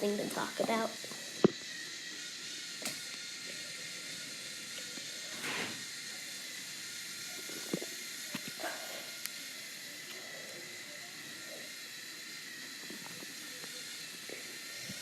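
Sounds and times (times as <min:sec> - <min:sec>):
toy roller coaster hiss: 0:00.0 - 0:15.0.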